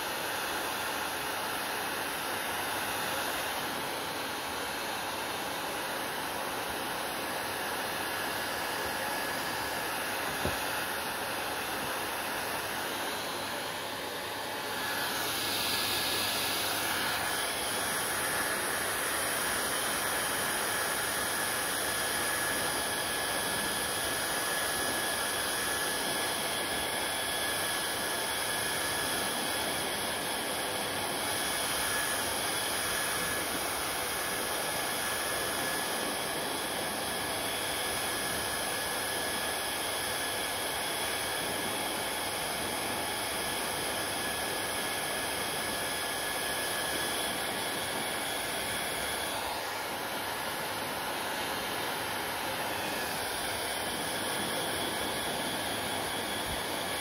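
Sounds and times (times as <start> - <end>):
hair dryer blowing air: 0.0 - 57.0.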